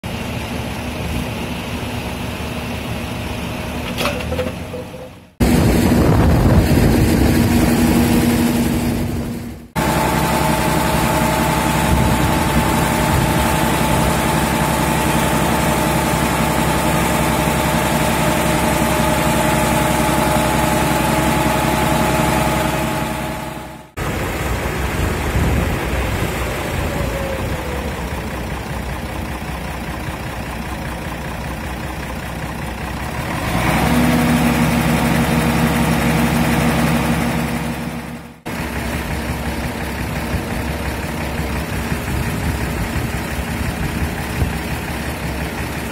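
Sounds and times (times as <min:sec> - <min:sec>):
crane engine running: 0:00.0 - 0:45.9.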